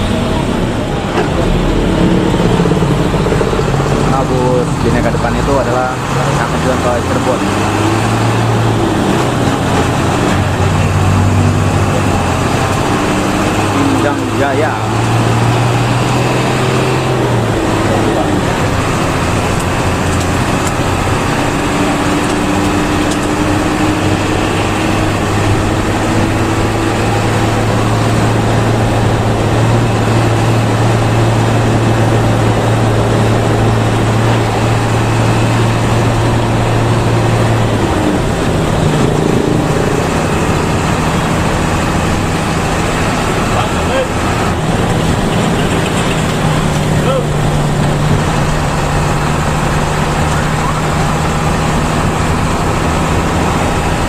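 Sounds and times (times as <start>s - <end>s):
bus engine droning: 0.0s - 54.0s
road and traffic noise: 0.0s - 54.0s.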